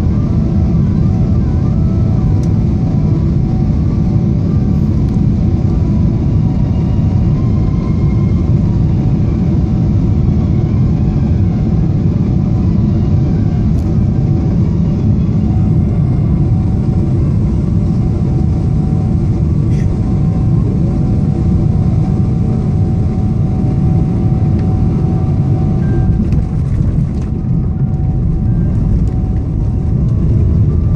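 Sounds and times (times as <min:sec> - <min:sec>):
faint steady whine: 0:00.0 - 0:30.9
jet engine cabin rumble: 0:00.0 - 0:30.9.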